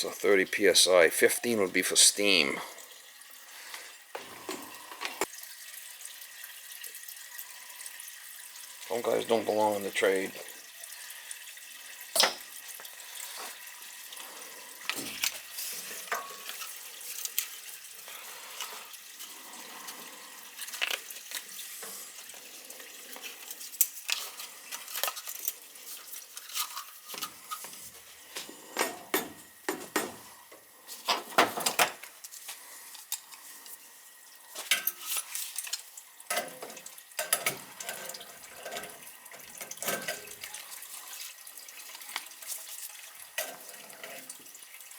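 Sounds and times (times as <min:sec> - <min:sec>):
water running from piping: 0:00.0 - 0:44.9.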